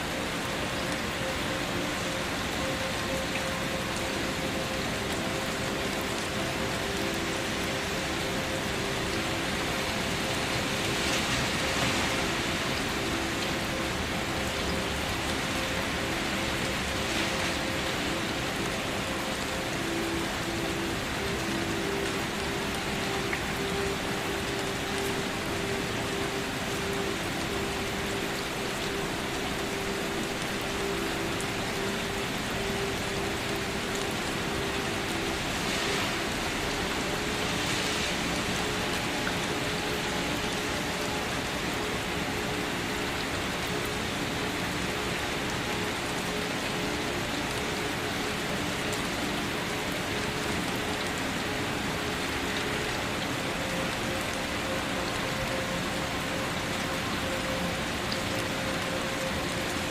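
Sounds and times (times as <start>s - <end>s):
gentle rain: 0.0s - 59.9s.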